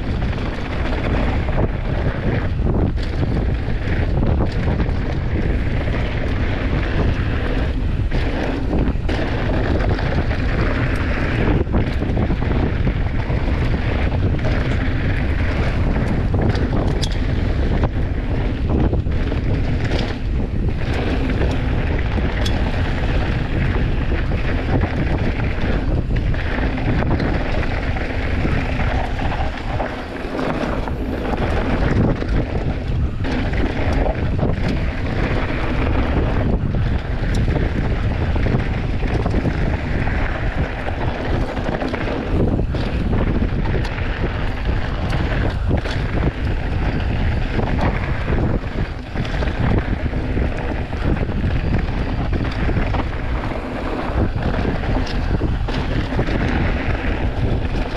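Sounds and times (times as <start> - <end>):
bike knocking and rattling: 0.0 - 57.9
tyres rushing on dirt trail: 0.0 - 57.9
wind buffeting microphone: 0.0 - 57.9.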